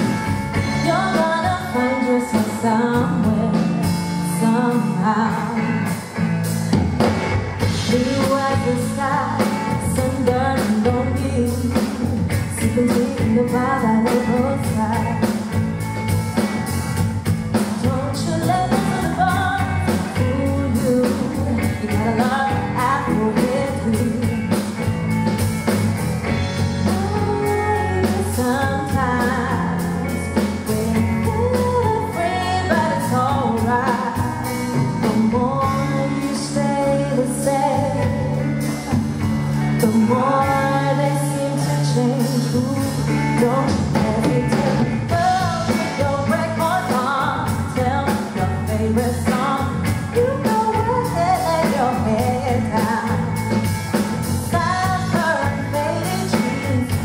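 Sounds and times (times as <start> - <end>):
woman singing into a microphone: 0.0 - 6.2, 7.6 - 15.6, 17.5 - 24.6, 26.3 - 57.0
bass guitar: 0.0 - 57.0
drum kit: 0.0 - 57.0
electric guitar: 0.0 - 57.0.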